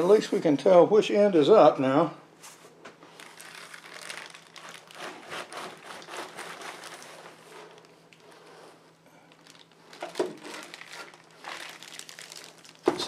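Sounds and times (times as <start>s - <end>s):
plastic and cardboard rustling: 2.4s - 13.0s.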